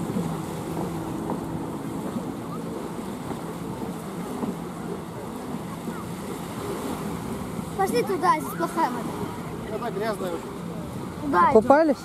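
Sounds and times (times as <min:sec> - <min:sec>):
jet ski engine humming: 0:00.0 - 0:12.0
small waves washing on shore: 0:00.0 - 0:12.0.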